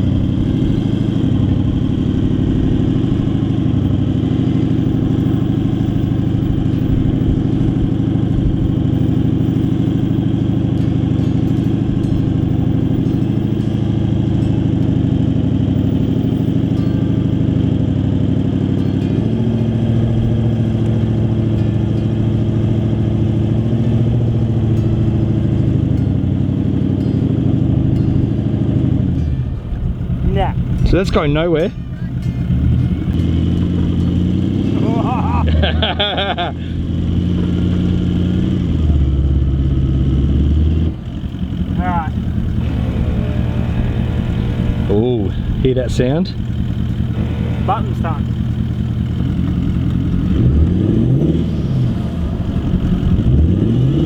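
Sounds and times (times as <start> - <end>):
engine running under load: 0.0 - 54.0.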